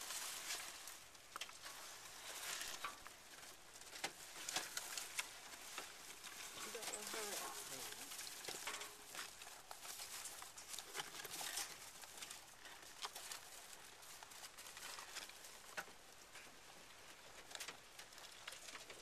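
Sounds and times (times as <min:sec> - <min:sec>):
rustling in hay: 0:00.0 - 0:17.0
small claws scratching: 0:00.0 - 0:19.0.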